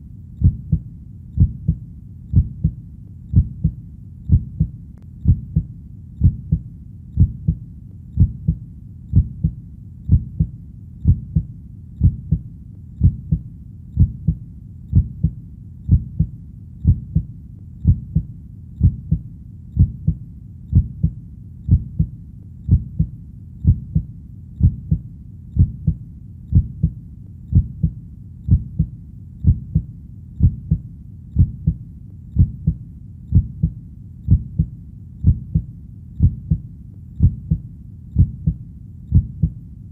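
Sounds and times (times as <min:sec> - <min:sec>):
heartbeat thudding: 0:00.4 - 0:39.6.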